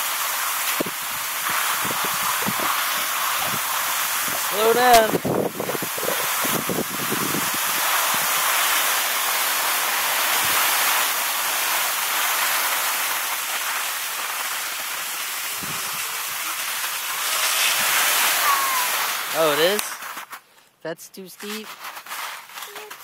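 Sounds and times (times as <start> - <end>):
skis hissing over snow: 0.0 - 23.0.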